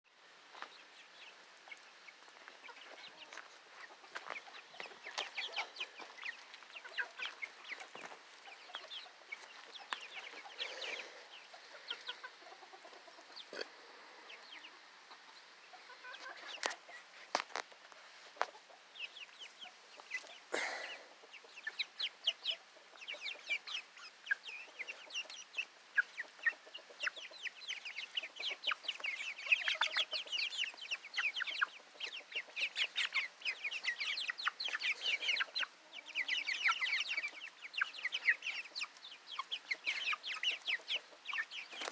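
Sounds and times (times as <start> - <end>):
chicks peeping and clucking: 0.2 - 41.9.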